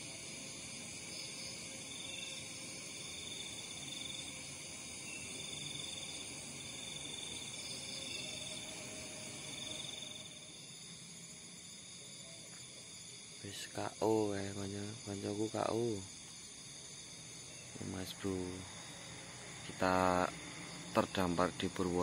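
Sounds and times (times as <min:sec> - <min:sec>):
crickets chirring: 0:00.0 - 0:22.0
insect trill: 0:00.0 - 0:22.0.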